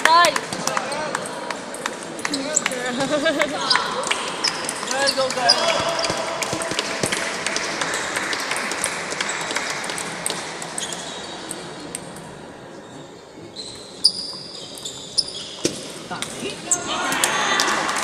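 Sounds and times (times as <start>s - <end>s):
crowd noise in a hall: 0.0s - 18.0s.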